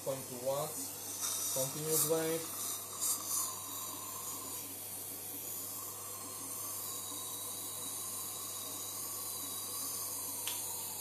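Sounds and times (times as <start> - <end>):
dental suction hissing: 0.0 - 11.0.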